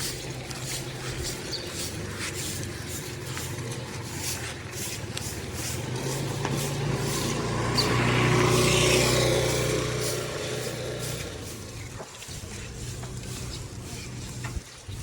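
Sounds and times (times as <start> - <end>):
vehicle engine approaching: 0.0 - 15.0.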